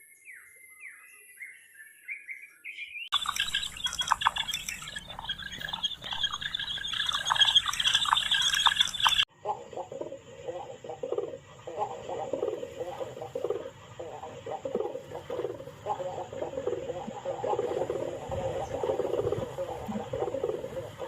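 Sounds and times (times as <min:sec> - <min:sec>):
birds chirping: 0:02.8 - 0:21.0.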